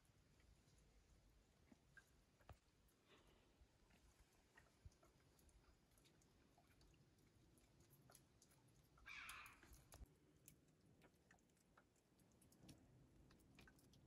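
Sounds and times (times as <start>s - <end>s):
chewing: 1.6s - 14.0s.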